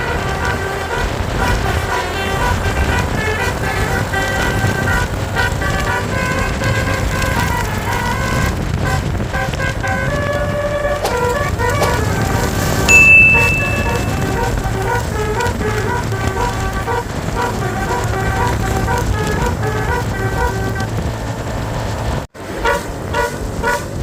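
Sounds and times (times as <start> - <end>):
bus musical horn melody: 0.0 - 24.0
engine rumble: 0.0 - 24.0
road noise: 0.0 - 24.0.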